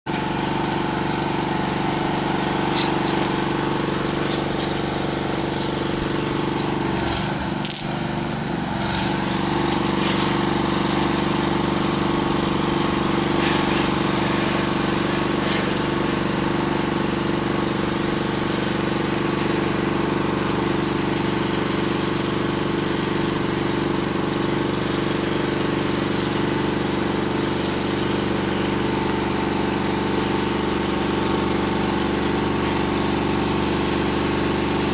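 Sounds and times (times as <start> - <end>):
engine running steadily: 0.1 - 34.9.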